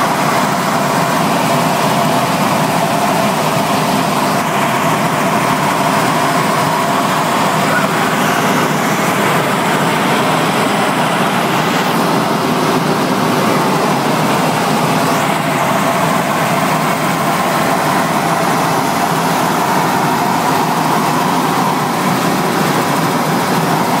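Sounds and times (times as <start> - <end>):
helicopter cabin noise: 0.0 - 24.0.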